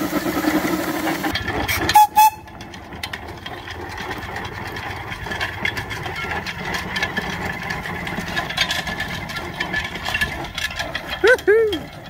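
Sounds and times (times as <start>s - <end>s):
steam engine clattering: 0.0s - 12.0s.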